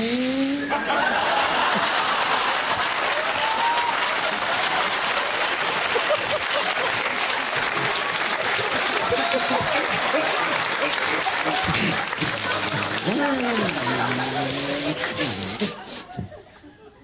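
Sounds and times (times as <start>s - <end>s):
audience applauding: 0.9s - 15.8s.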